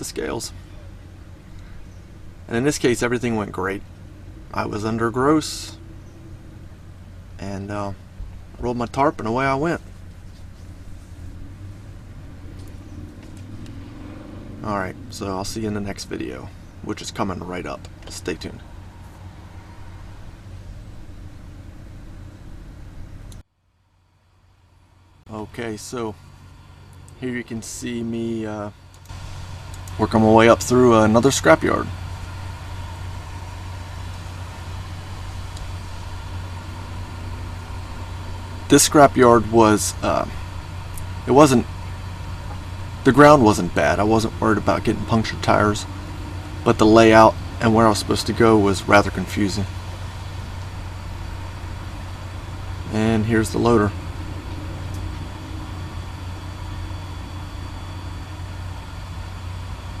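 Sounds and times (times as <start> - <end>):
truck diesel engine droning: 0.0 - 23.4, 24.0 - 60.0.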